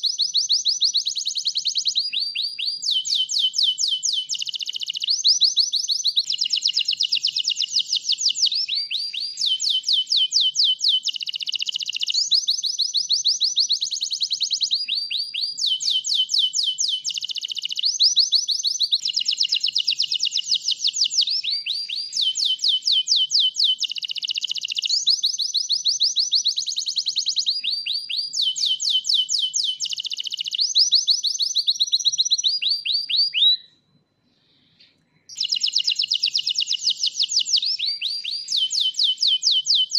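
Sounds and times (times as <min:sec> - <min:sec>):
canary singing trills: 0:00.0 - 0:33.7, 0:35.3 - 0:39.9.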